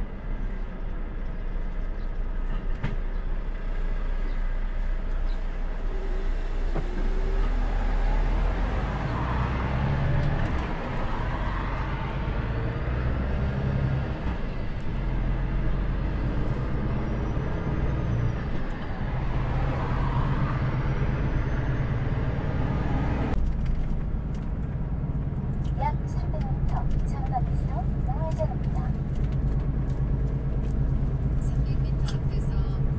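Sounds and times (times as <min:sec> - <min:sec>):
truck diesel engine drone: 0:00.0 - 0:32.9.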